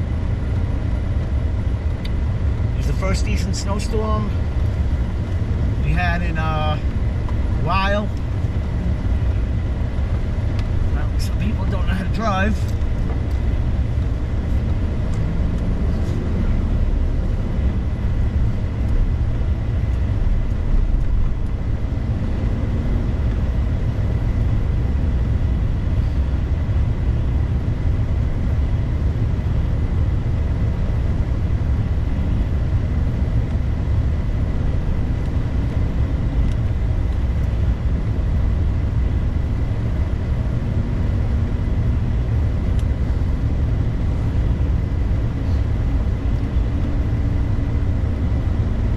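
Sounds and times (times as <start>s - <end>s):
road noise: 0.0s - 48.9s
vehicle engine rumble: 0.0s - 48.9s.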